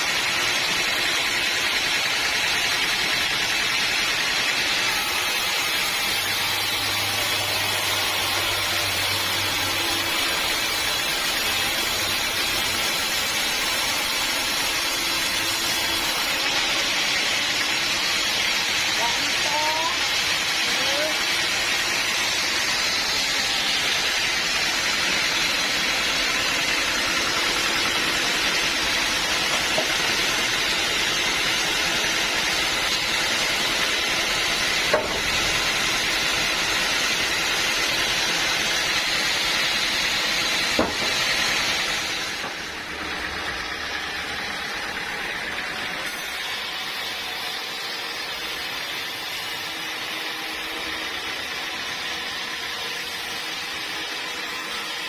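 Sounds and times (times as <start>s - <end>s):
bandsaw cutting log: 0.0s - 55.0s.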